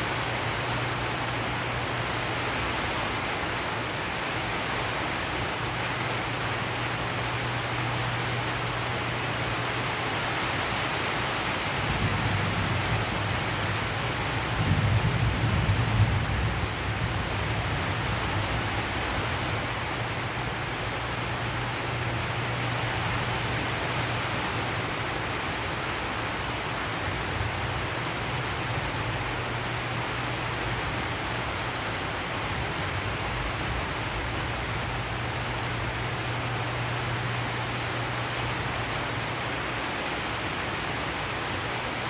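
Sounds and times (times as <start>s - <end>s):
rain on a metal roof: 0.0s - 42.0s.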